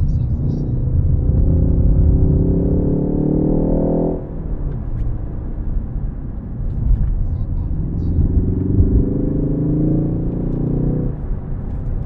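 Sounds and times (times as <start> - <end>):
car engine accelerating: 0.0 - 12.0
low engine and road rumble: 0.0 - 12.0.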